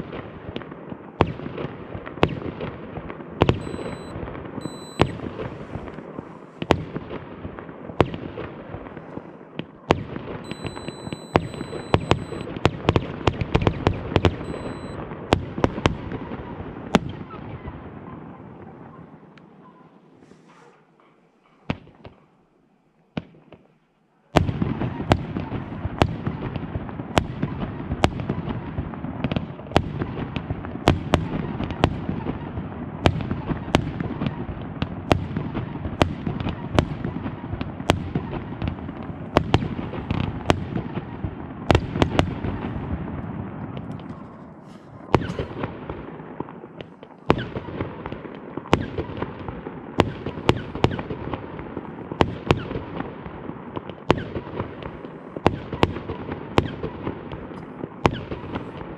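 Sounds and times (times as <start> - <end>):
fireworks bangs: 0.0 - 22.4, 23.1 - 58.9.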